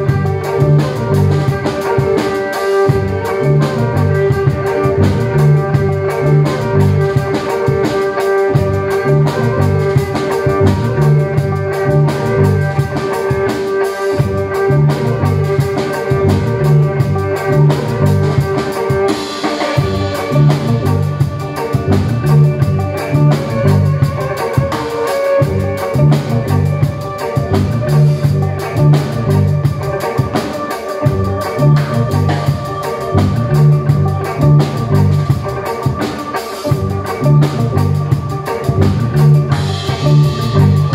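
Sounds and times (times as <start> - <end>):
low bass phrase: 0.0 - 2.2, 2.9 - 13.4, 14.2 - 19.0, 19.8 - 24.7, 25.4 - 30.3, 31.0 - 35.7, 36.6 - 40.9
amplified violin with effects: 0.0 - 40.9
drum kit: 0.0 - 40.9.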